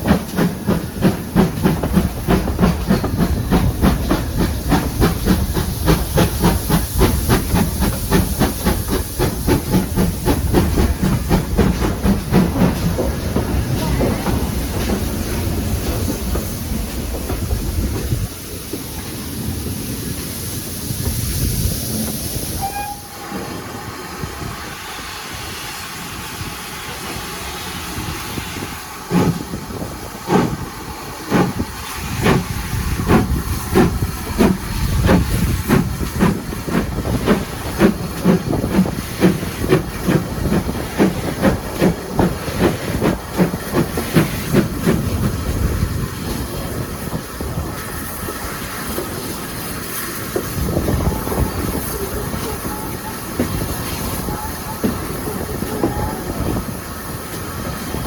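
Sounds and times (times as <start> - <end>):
locomotive exhaust beats: 0.0 - 20.0, 29.0 - 58.0
steam locomotive hissing: 0.0 - 58.0.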